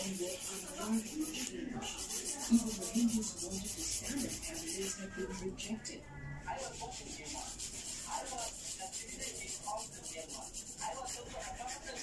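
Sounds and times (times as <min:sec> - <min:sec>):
nail file rasping: 0:00.0 - 0:05.4, 0:06.7 - 0:12.0.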